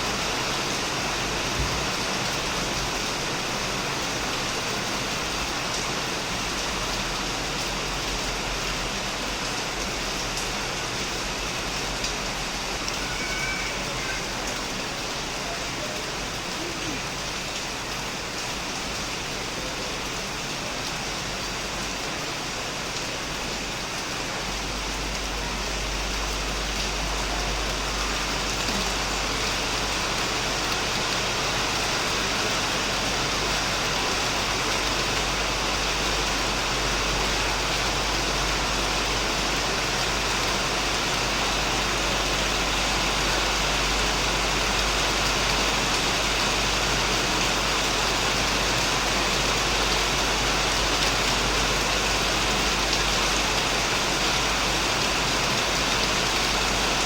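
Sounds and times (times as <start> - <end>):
heavy rain on a shed: 0.0 - 57.0.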